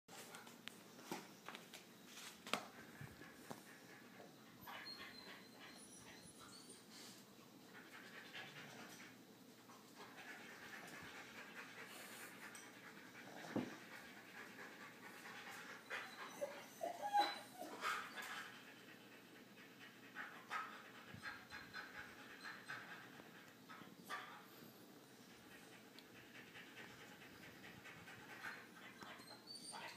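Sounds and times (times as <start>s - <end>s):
dog panting: 2.6s - 29.9s.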